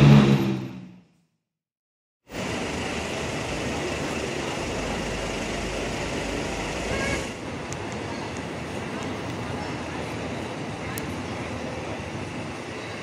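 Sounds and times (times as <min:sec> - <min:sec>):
city street traffic: 0:00.0 - 0:01.0, 0:02.3 - 0:13.0.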